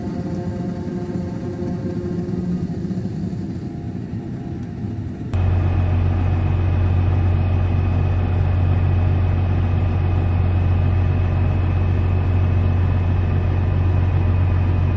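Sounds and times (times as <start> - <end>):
heavy machinery engine droning: 0.0 - 14.9.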